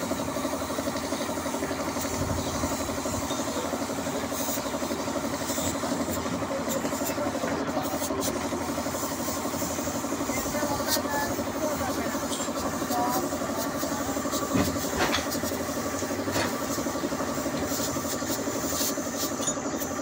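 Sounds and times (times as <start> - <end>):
air compressor pulsing drone: 0.0 - 20.0
spray gun hissing: 0.0 - 20.0.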